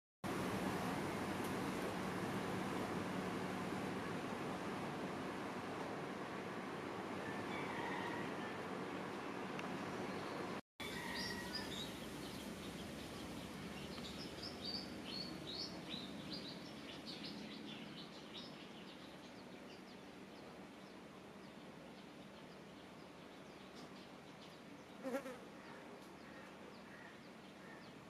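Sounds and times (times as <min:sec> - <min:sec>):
steady low hiss: 0:00.3 - 0:28.0.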